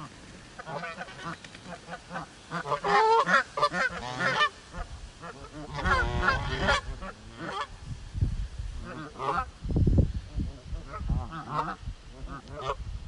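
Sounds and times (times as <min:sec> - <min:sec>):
geese honking: 0:00.0 - 0:07.8, 0:08.8 - 0:09.6, 0:10.8 - 0:12.8.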